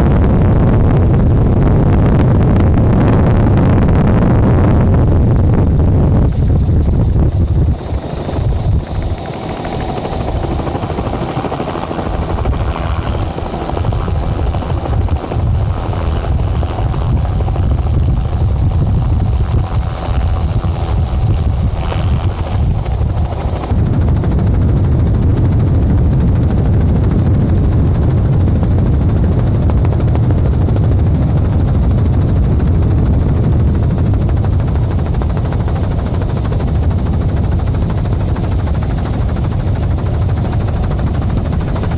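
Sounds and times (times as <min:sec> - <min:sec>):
helicopter rotor and engine drone: 0:00.0 - 0:41.9.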